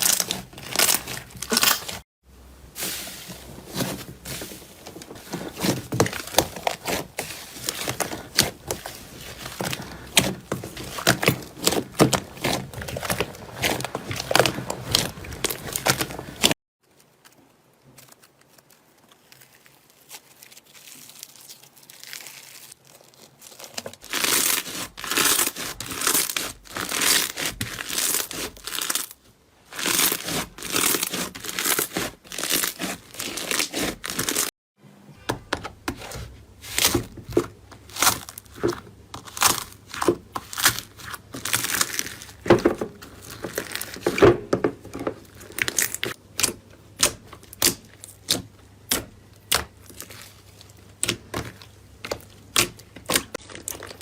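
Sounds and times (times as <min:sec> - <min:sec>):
slime crackling and crinkling: 0:00.0 - 0:34.5, 0:36.0 - 0:54.0.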